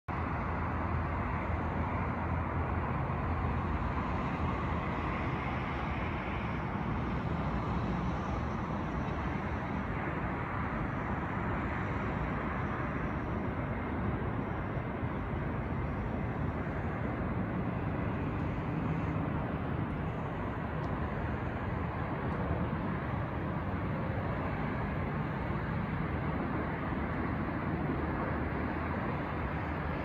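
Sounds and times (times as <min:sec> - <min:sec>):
jet airliner roar: 0:00.1 - 0:30.0.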